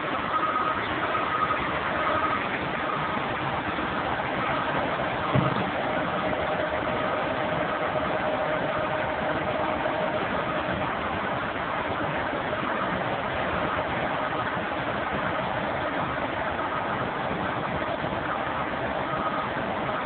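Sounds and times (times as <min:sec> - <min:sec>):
piling rig engine running: 0:00.0 - 0:20.0
steady whine: 0:00.0 - 0:20.0.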